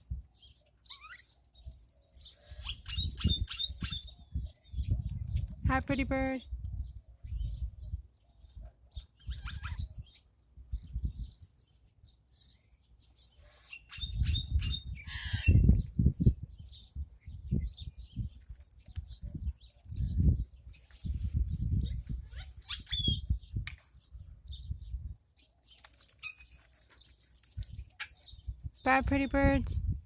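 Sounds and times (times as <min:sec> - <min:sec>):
pet birds chirping: 0:00.3 - 0:29.6.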